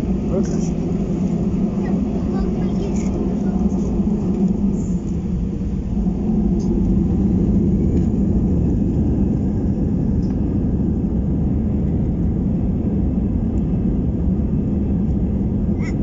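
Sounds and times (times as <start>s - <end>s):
jet cabin engine rumble: 0.0s - 16.0s.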